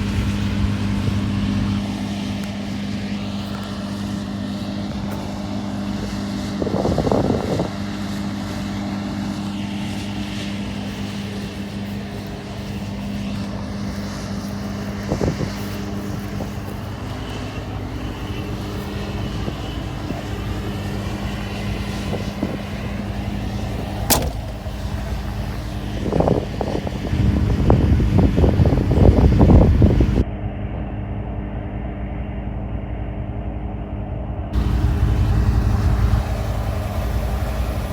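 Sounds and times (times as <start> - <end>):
noisy rushes: 0.0 - 7.7, 10.6 - 30.6, 31.6 - 37.9
harvester engine running: 0.0 - 8.1, 9.8 - 30.2, 34.4 - 37.9.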